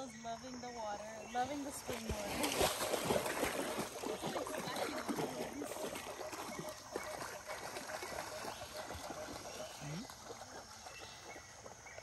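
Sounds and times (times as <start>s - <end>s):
shallow water splashing: 1.3s - 12.0s.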